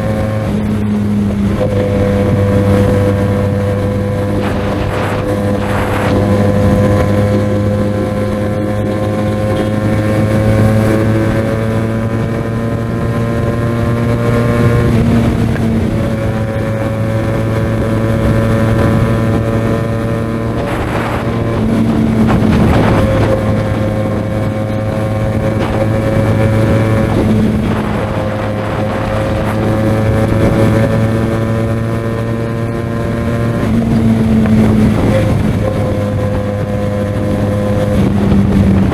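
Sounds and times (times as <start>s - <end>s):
motorcycle engine and exhaust: 0.0s - 38.9s
wind rushing past microphone: 0.0s - 38.9s.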